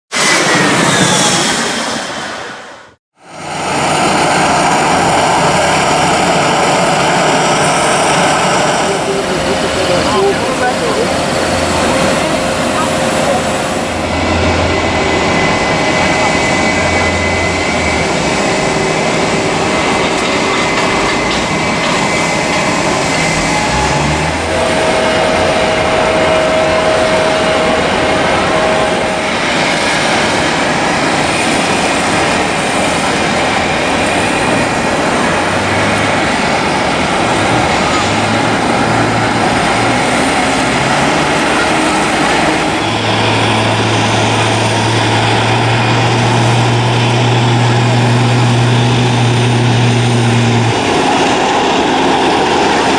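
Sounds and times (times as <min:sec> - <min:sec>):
jet engines roaring on takeoff: 0:00.1 - 0:52.9
low hum: 0:03.4 - 0:52.7.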